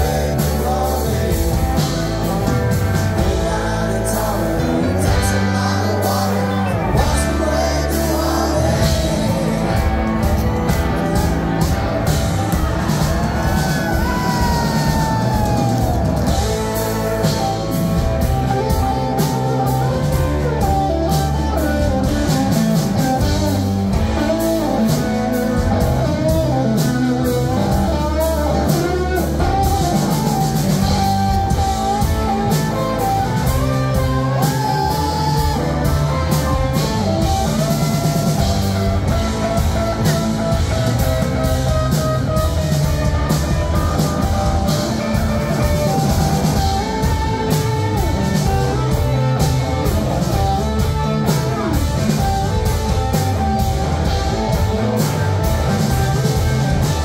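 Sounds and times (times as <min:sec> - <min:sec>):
electric guitar lead: 0:00.0 - 0:57.0
rock band playing: 0:00.0 - 0:57.0.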